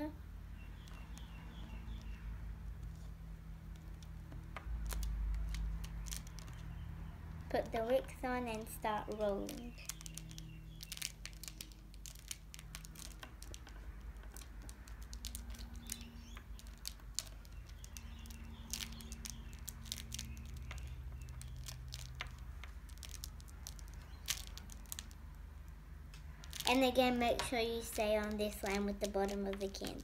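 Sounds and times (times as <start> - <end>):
small clicks and crinkles: 0.0 - 30.0
fingers rolling beeswax sheet: 0.6 - 30.0.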